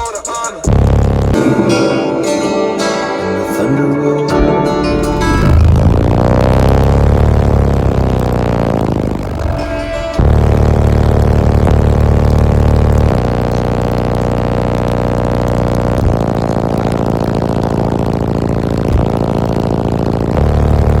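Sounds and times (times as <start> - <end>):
deep bass notes from subwoofers: 0.7 - 21.0.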